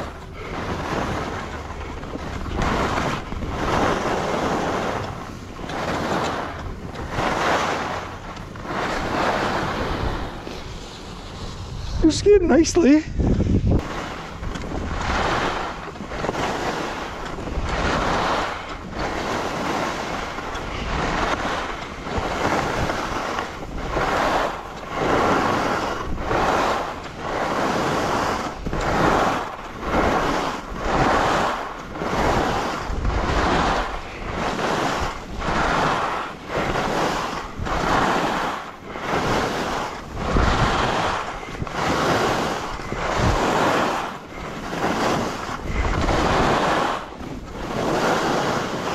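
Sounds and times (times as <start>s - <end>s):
skis scraping over snow: 0.0s - 48.9s
wind buffeting microphone: 0.0s - 48.9s.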